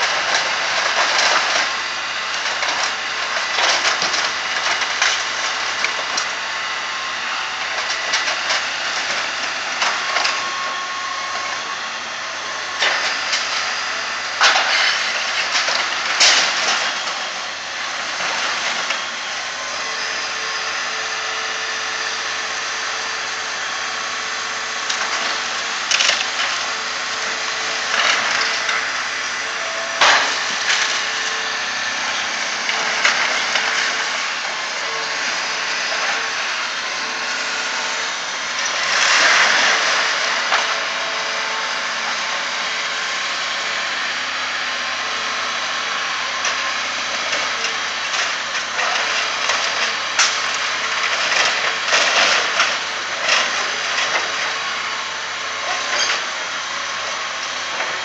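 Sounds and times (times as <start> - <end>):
excavator diesel engine running: 0.0 - 58.0
wood and metal crunching: 0.0 - 58.0.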